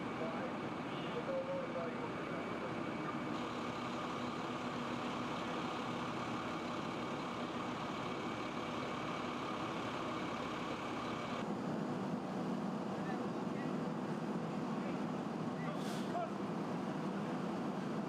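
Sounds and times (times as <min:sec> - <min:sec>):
fire engine idling: 0:00.0 - 0:18.0.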